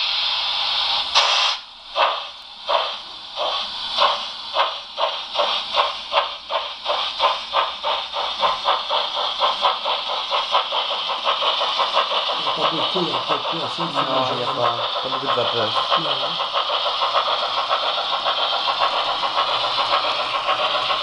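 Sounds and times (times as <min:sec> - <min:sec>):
steam hiss: 0:00.0 - 0:21.0
steam locomotive exhaust chuffs: 0:00.0 - 0:21.0.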